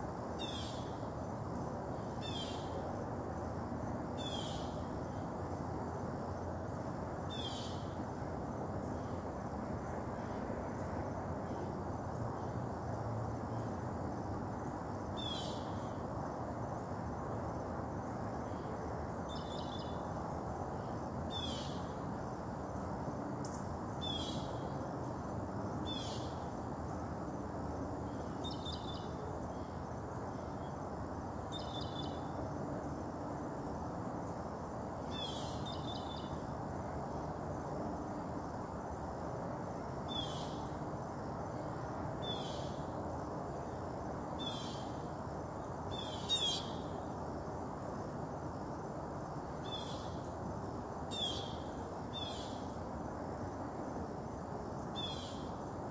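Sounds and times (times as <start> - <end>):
low background hiss: 0.0 - 55.9.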